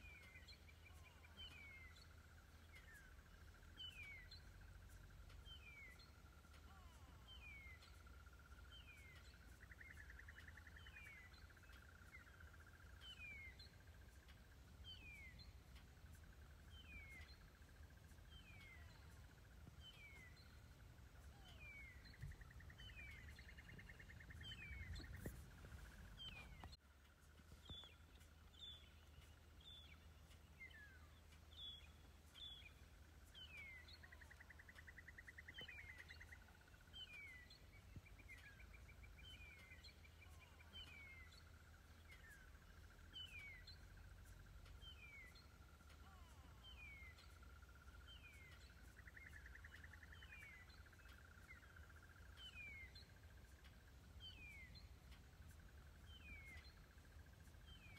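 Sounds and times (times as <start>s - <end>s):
low background rumble: 0.0s - 57.9s.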